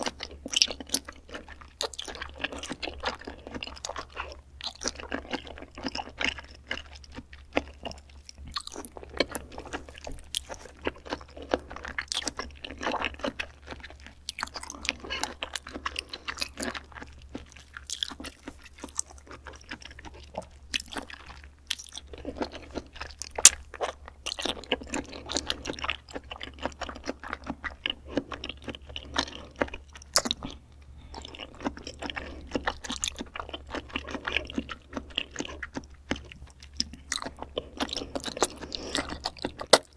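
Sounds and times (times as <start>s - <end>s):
low steady hum: 0.0s - 39.9s
wet chewing and lip smacks: 0.0s - 39.9s.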